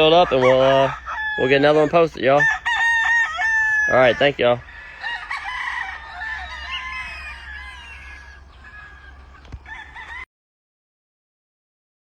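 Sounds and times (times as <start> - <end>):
roosters crowing: 0.0 - 10.3.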